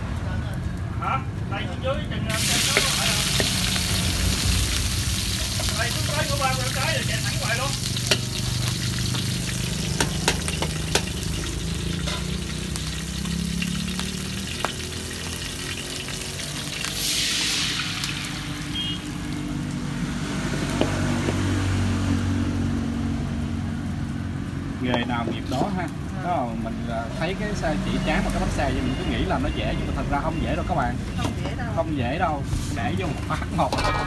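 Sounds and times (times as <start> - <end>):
shrimp frying with crackles: 0.0 - 33.8
batter sizzling in hot fat: 2.2 - 30.8.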